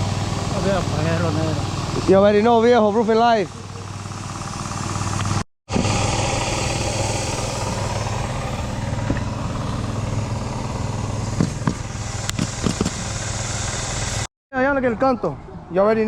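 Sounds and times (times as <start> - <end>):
small gas engine running: 0.0 - 14.3.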